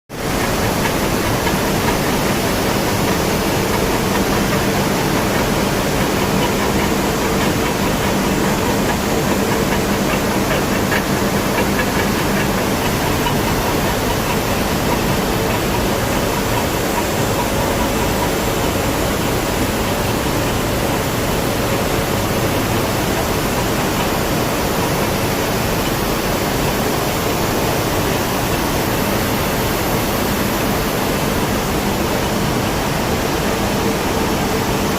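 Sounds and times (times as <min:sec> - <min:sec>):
industrial furnace roar: 0:00.1 - 0:34.9.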